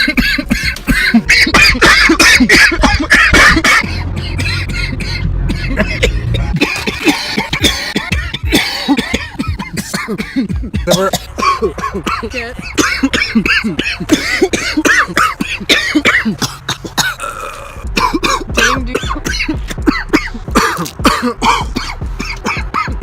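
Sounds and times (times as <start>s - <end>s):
harsh coughing: 0.0s - 23.0s.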